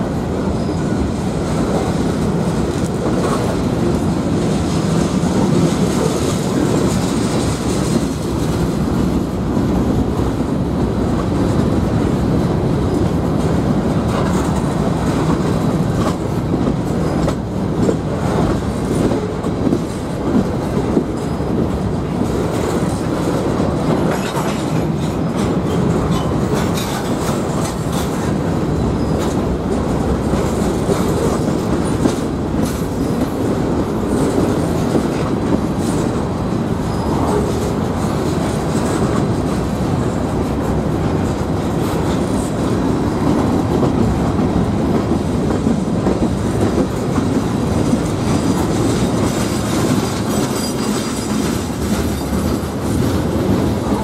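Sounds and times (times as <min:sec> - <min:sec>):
steel wheels rumbling on rail: 0:00.0 - 0:54.0
wheels clicking over rail joints: 0:00.3 - 0:54.0.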